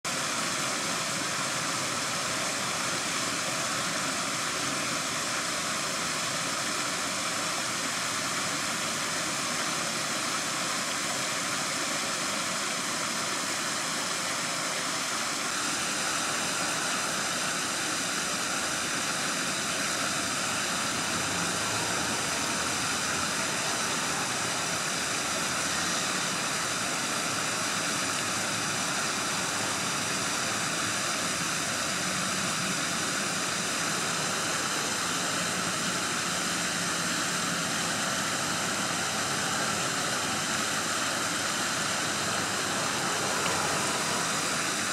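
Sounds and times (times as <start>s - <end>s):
running stream water: 0.0s - 44.9s.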